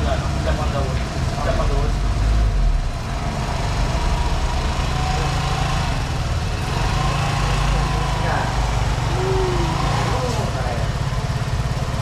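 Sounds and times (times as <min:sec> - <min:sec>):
scooter engine idling: 0:00.0 - 0:02.2, 0:02.8 - 0:12.0.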